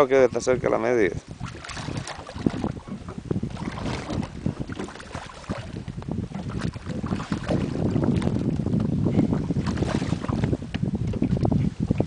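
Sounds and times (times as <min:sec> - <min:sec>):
water lapping: 0:00.0 - 0:12.0
wind buffeting microphone: 0:00.0 - 0:12.0.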